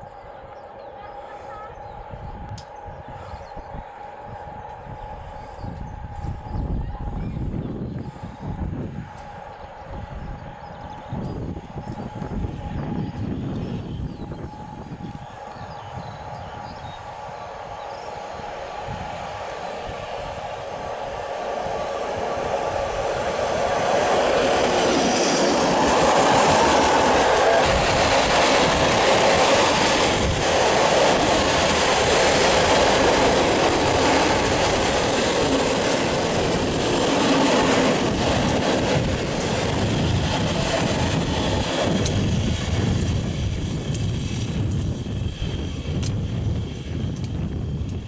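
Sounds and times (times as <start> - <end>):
freight train passing: 0.0 - 48.0.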